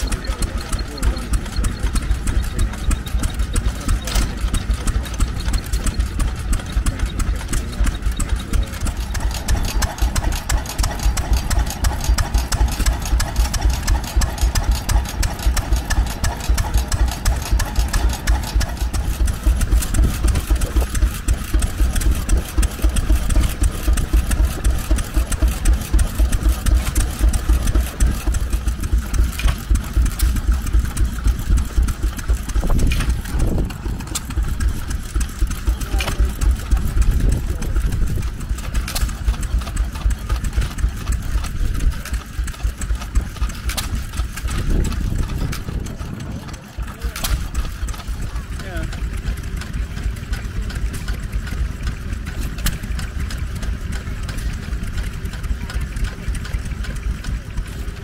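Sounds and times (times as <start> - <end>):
stationary engines running: 0.0 - 58.0.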